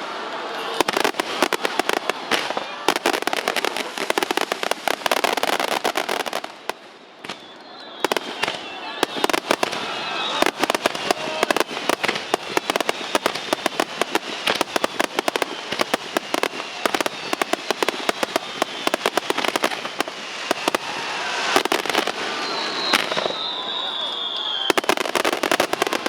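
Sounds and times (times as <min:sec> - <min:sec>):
firework whistles: 0:00.0 - 0:26.0
fireworks bangs and crackles: 0:00.0 - 0:26.0.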